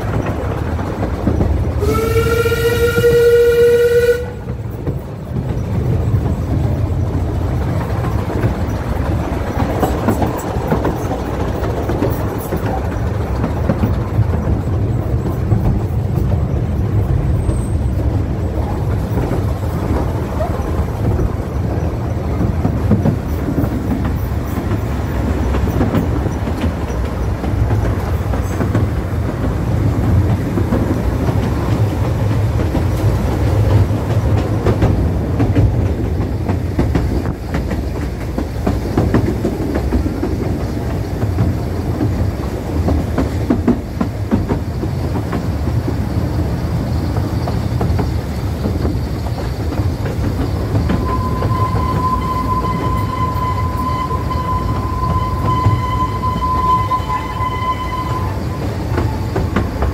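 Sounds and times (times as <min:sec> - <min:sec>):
train wheels rumbling and rattling: 0:00.0 - 0:59.9.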